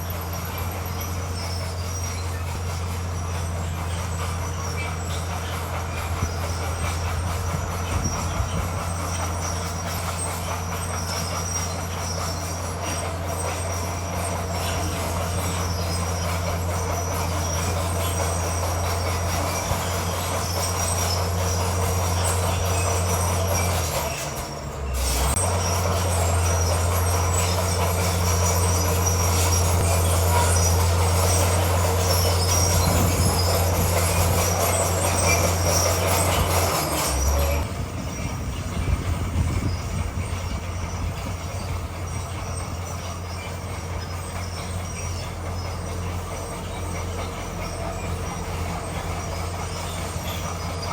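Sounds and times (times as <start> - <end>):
bulldozer diesel engine drone: 0.0 - 50.9
steel tracks squealing and clanking: 0.0 - 50.9.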